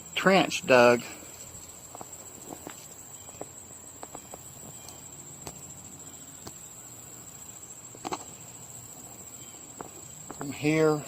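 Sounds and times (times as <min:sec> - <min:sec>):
crickets chirping chorus: 0:00.0 - 0:11.0.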